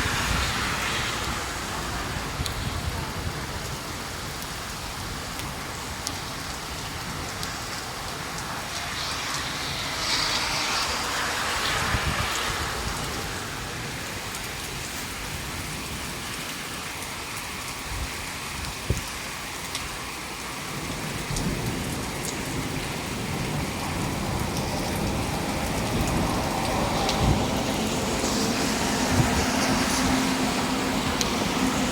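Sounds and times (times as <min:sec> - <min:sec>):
rain pattering: 0:00.0 - 0:31.9.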